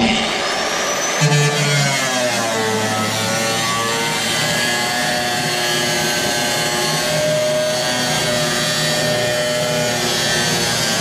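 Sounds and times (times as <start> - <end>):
angle grinder cutting steel: 0.0 - 11.0.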